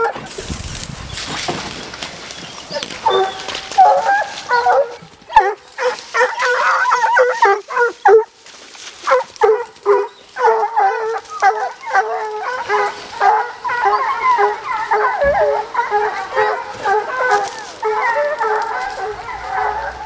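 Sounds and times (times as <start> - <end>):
dogs barking: 0.0 - 0.4, 1.9 - 20.0
dogs baying and bawling: 0.0 - 0.5, 1.6 - 20.0.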